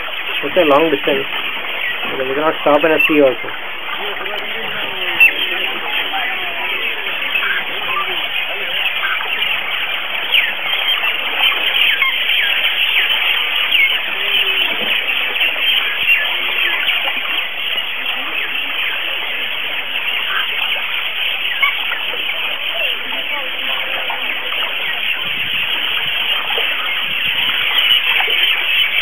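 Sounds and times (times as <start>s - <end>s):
birds chirping and squawking: 0.0s - 29.0s.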